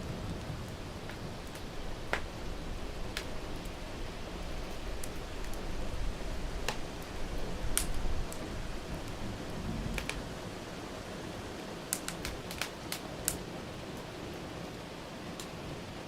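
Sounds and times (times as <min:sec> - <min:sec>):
wood fire crackling and popping: 0:00.0 - 0:10.6, 0:11.6 - 0:15.9
rain hissing: 0:00.0 - 0:16.0.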